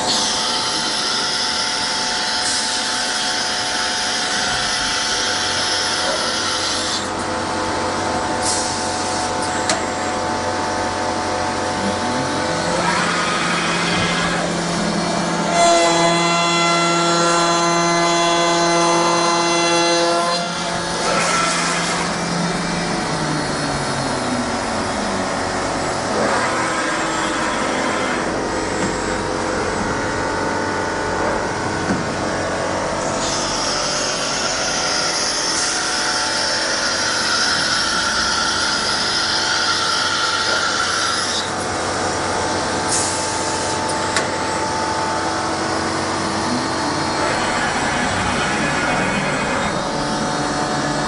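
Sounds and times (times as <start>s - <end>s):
milling machine drone: 0.0s - 51.0s.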